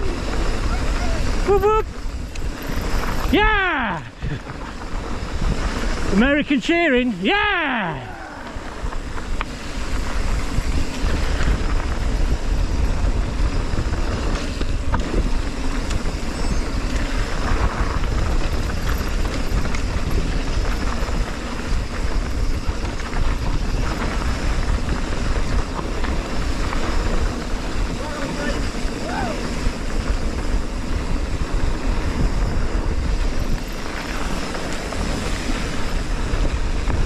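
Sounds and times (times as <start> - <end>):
mountain bike rattling on dirt trail: 0.0 - 37.0
wind buffeting microphone: 0.0 - 37.0.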